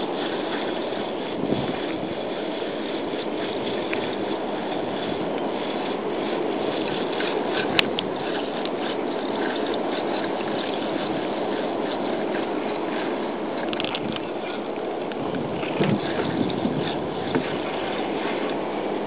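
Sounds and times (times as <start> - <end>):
wind and water rushing: 0.0 - 19.0.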